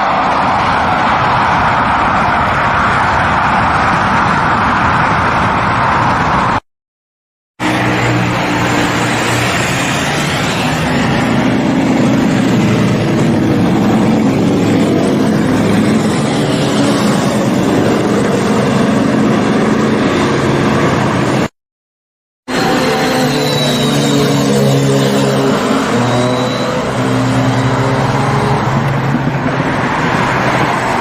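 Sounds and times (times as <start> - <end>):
wind and road noise: 0.0 - 6.6, 7.6 - 21.5, 22.5 - 31.0.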